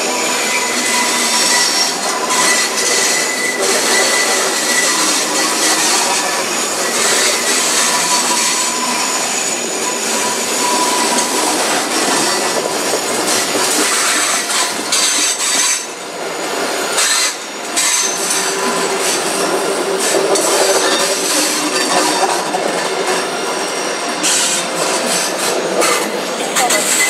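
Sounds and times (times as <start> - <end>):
wheel squeal: 0.0 - 16.0, 17.0 - 27.0
train wheels rushing: 0.0 - 27.0
wheels clacking over rail joints: 0.9 - 16.0, 16.9 - 27.0.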